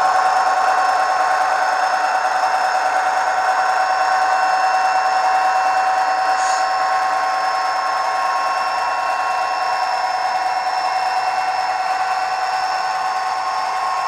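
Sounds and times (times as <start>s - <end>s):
diesel engine through small speaker: 0.0s - 14.0s.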